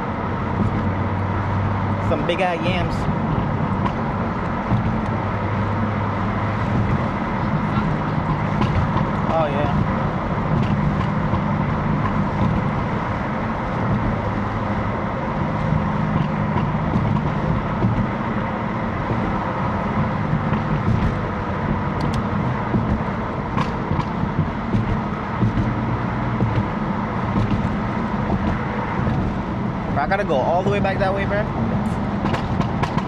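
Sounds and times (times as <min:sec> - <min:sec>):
car engine running at low revs: 0:00.0 - 0:33.0
road noise: 0:00.0 - 0:33.0.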